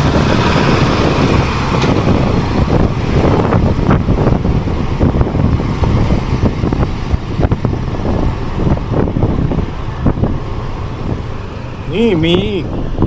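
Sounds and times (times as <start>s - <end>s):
vehicle rumbling along road: 0.0s - 13.0s
wind buffeting microphone: 0.0s - 13.0s.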